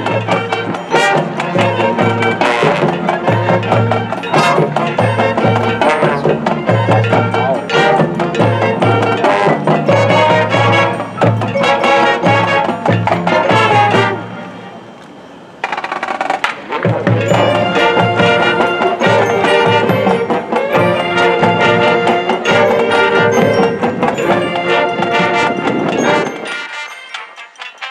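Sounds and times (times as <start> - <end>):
marching band brass: 0.0 - 27.9
marching band percussion: 0.0 - 27.9.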